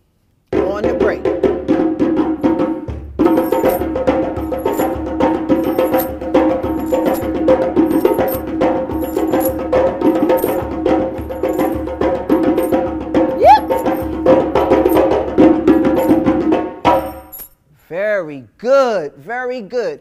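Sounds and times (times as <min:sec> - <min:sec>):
hand drum rhythm: 0:00.5 - 0:17.4.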